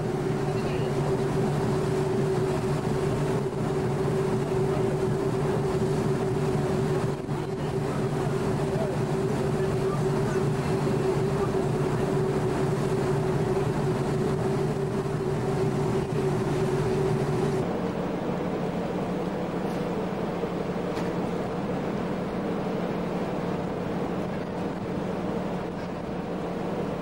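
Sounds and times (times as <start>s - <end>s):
boat engine droning: 0.0s - 27.0s
rush of boat wake: 0.0s - 27.0s
wind: 0.0s - 27.0s.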